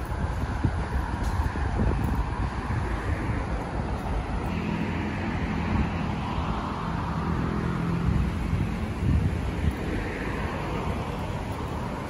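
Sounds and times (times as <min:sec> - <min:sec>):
road traffic: 0:00.0 - 0:12.0
vehicle engine passing: 0:00.0 - 0:12.0.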